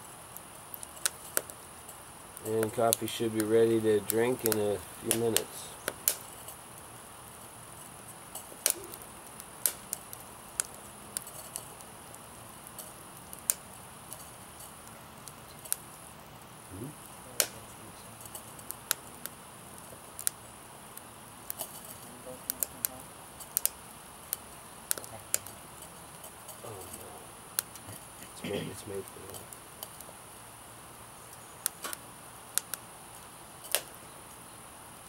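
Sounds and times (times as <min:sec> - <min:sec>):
steady high hiss: 0:00.0 - 0:35.0
twig fire crackling: 0:00.0 - 0:35.0.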